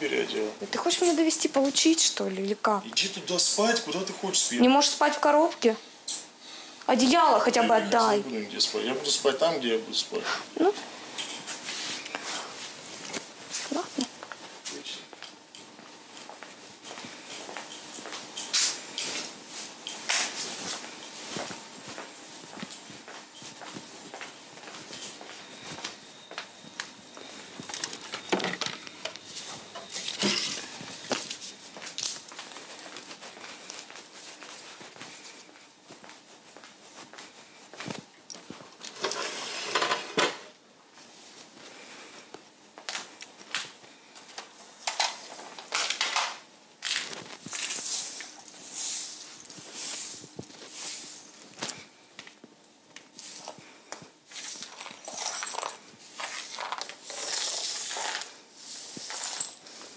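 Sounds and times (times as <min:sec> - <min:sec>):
rustling and crinkling handling: 0:07.0 - 0:59.9.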